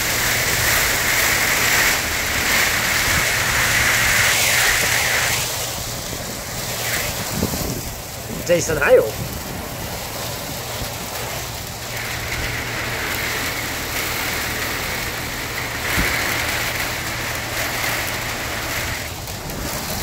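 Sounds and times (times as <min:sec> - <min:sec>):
hail and rain falling: 0:00.0 - 0:20.0.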